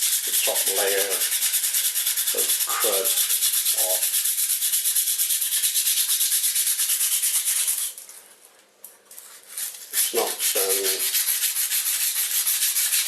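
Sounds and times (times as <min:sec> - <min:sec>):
sandpaper rubbing on circuit board: 0:00.0 - 0:07.9, 0:09.3 - 0:13.0.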